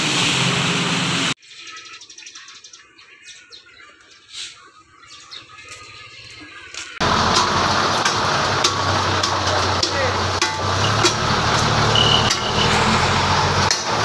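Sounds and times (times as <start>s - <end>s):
concrete road paving noise: 0.0s - 1.6s, 4.2s - 14.0s.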